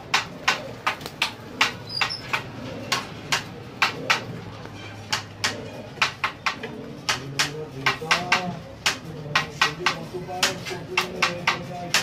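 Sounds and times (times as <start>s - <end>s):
sharp knocks or claps: 0.0s - 4.4s, 5.1s - 12.0s.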